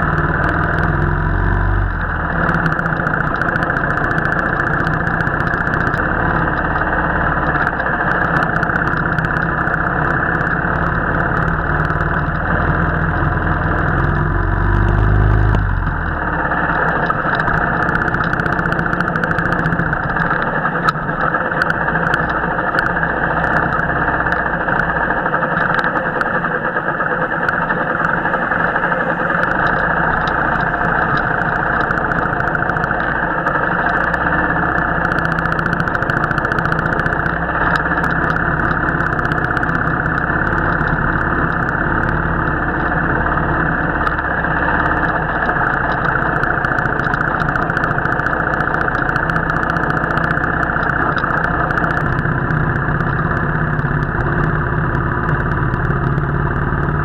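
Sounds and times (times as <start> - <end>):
deep low rumble: 0.0 - 57.0
motorcycle engine running: 0.0 - 57.0.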